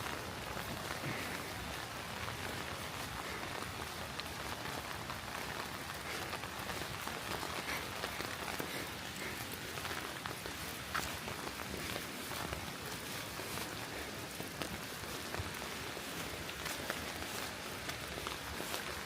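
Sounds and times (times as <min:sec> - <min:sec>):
raindrops ticking: 0:00.0 - 0:19.0
steady rain hiss: 0:00.0 - 0:19.0.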